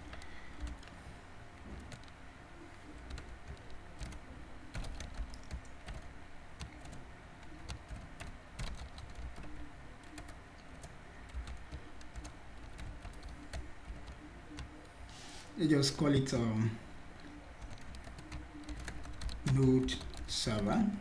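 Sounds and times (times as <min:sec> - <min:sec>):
keyboard typing: 0:00.0 - 0:01.0, 0:01.6 - 0:02.2, 0:02.8 - 0:15.0, 0:17.2 - 0:20.8
faint steady hum: 0:00.0 - 0:21.0.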